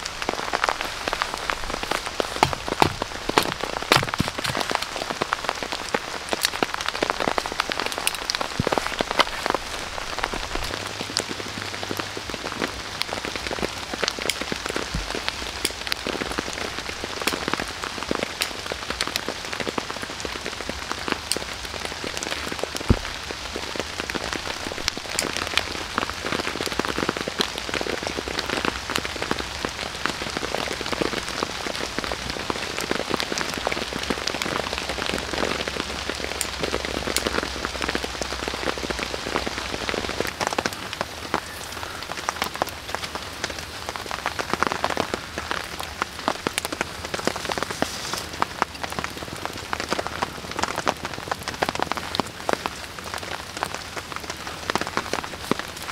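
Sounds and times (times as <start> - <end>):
rain falling on a tarp: 0.0 - 55.9.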